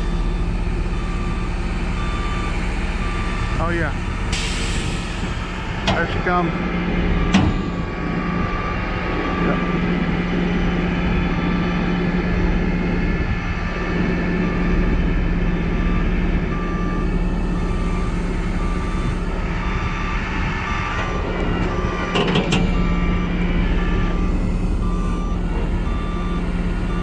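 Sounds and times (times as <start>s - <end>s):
truck engine running: 0.0s - 27.0s
truck reversing alarm beeping: 0.0s - 27.0s.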